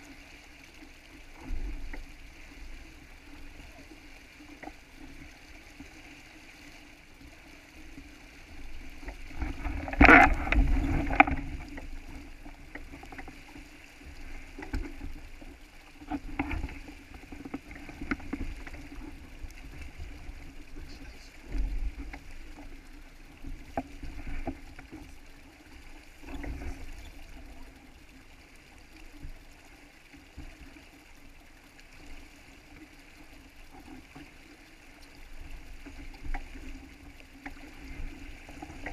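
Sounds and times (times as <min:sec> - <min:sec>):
water rushing along a hull: 0:00.0 - 0:38.9.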